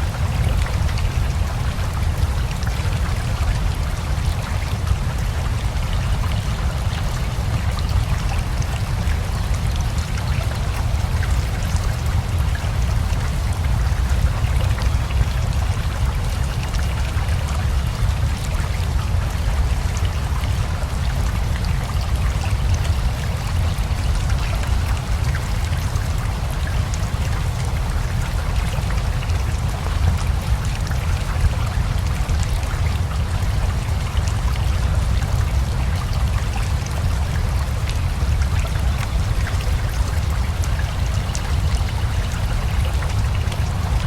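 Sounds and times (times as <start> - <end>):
rain patter: 0.0 - 44.0
river flowing: 0.0 - 44.0.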